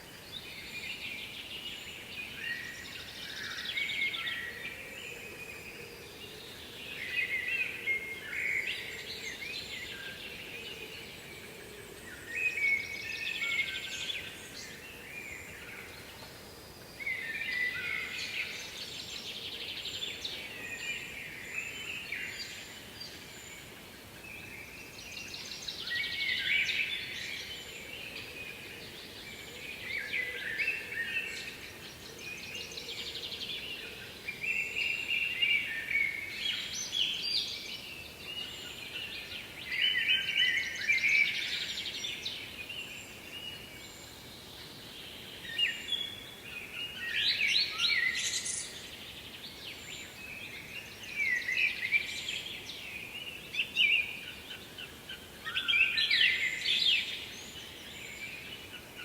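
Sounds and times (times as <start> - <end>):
faint steady hiss: 0.0 - 59.0
songbird singing: 0.0 - 59.0.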